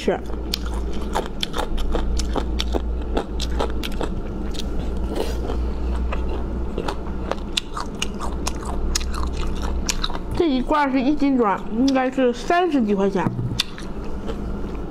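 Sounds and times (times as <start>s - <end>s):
steady low hum: 0.0s - 14.9s
chewing and crunching: 0.1s - 12.6s, 13.6s - 14.9s.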